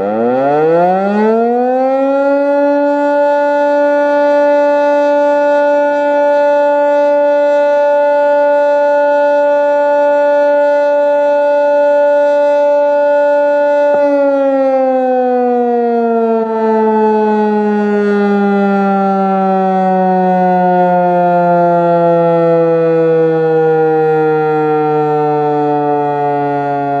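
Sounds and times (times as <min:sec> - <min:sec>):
electric motor siren: 0:00.0 - 0:27.0.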